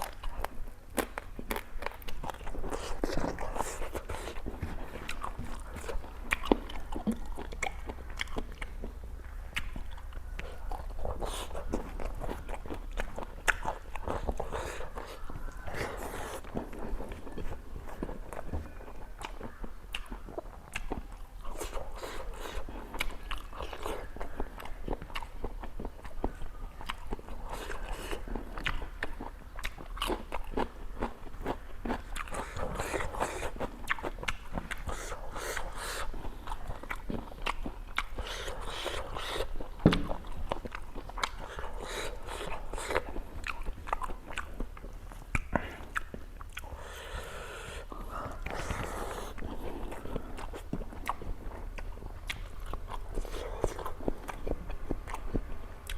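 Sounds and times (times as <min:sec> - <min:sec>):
person crunching and chewing food: 0:00.0 - 0:55.9.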